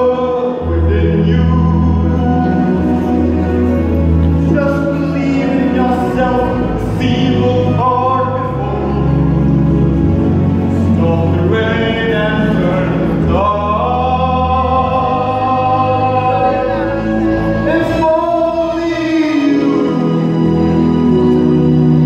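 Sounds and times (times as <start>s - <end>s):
man singing long notes: 0.0s - 21.0s
backing music: 0.0s - 22.0s.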